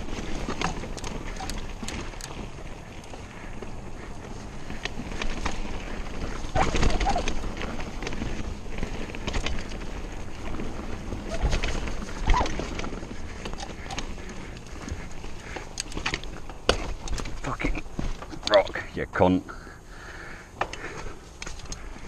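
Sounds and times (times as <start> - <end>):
bike chain and frame rattling: 0.0 - 18.8, 20.1 - 22.0
bike tyre and wind rumble: 0.0 - 22.0.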